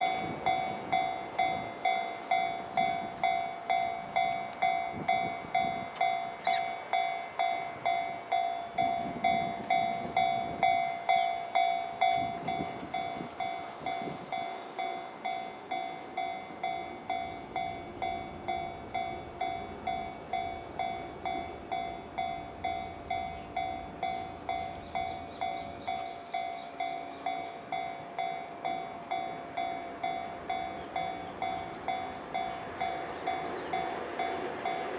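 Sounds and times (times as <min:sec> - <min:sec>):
level crossing alarm ringing: 0:00.0 - 0:34.9.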